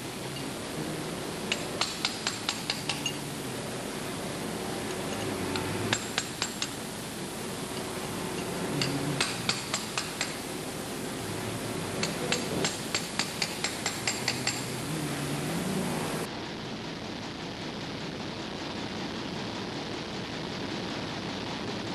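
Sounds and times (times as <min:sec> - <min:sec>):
steady hiss: 0:00.0 - 0:21.9.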